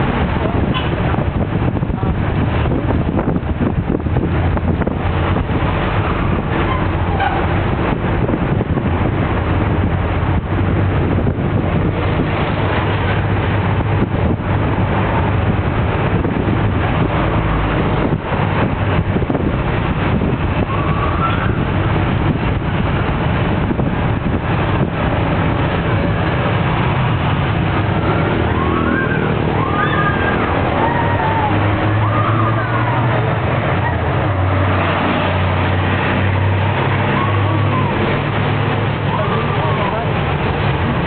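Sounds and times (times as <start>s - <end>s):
diesel engine rumble: 0.0s - 41.0s
wind and tyre noise: 0.0s - 41.0s.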